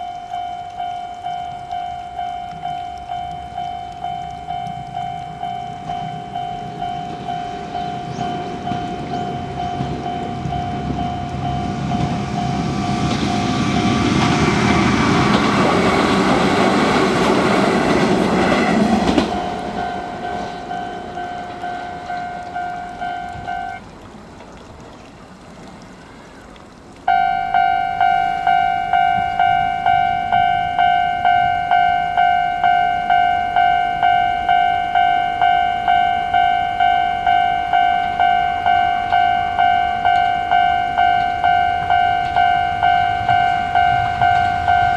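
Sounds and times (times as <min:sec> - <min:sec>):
level-crossing bell ringing: 0:00.0 - 0:14.2, 0:18.4 - 0:23.8, 0:27.1 - 0:44.9
train rumble: 0:00.0 - 0:24.9, 0:27.0 - 0:44.9.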